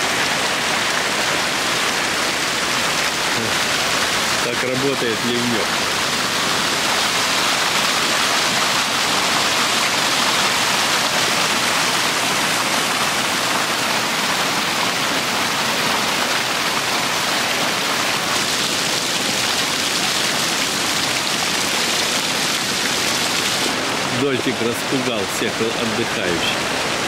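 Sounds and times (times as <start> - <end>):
rainwater gushing and splashing: 0.0 - 27.0.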